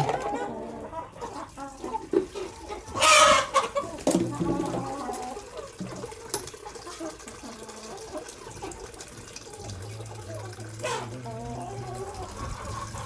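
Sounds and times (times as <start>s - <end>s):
chickens clucking: 0.0s - 13.0s
water running: 1.2s - 13.0s.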